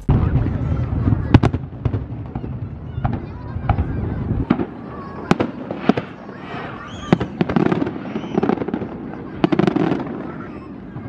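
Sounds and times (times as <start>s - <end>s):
people talking: 0.0s - 1.6s, 3.0s - 11.0s
fireworks bangs: 0.0s - 11.0s.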